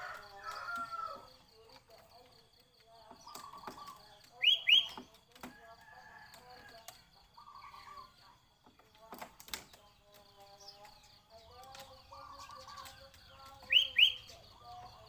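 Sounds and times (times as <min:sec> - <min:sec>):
caged birds trilling and chirping: 0:00.0 - 0:15.0.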